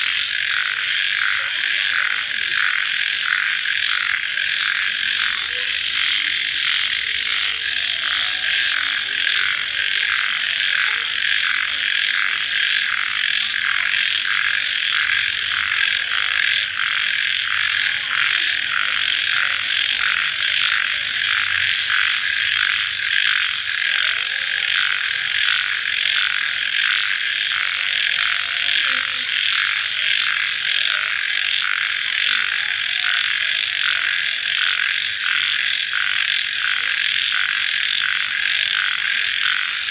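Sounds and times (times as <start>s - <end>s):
crickets trilling: 0.0s - 39.9s
low wavering insect calls: 0.0s - 39.9s.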